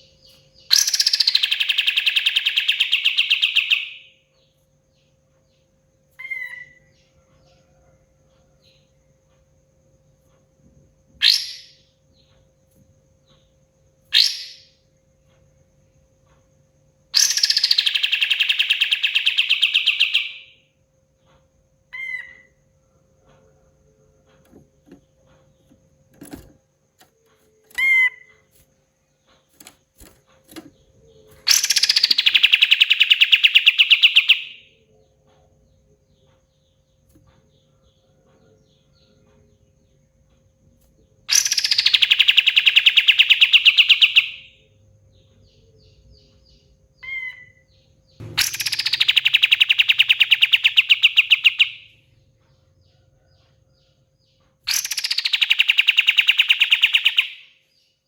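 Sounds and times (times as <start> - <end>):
songbird singing trills: 0.0 - 58.0.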